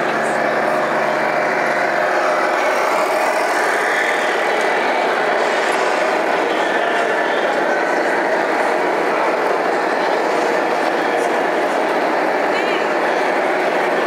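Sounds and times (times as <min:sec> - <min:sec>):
hubbub of busy hall: 0:00.0 - 0:14.0
simulated diesel engine sound: 0:00.0 - 0:14.0.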